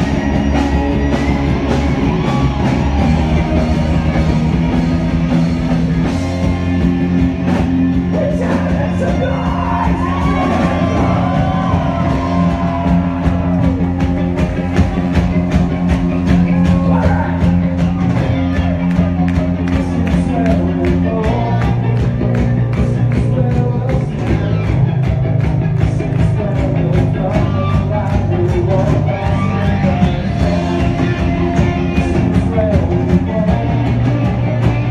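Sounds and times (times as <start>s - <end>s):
electric guitar and bass chords: 0.0s - 34.9s.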